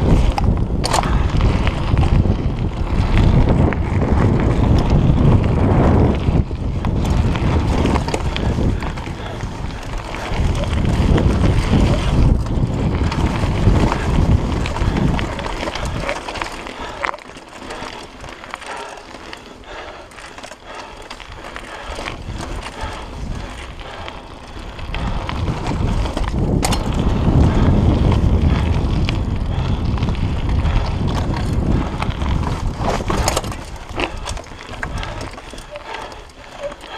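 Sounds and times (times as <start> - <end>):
wind on microphone: 0.0 - 17.0, 20.7 - 36.9
bike tyre rumble on dirt: 0.0 - 36.9.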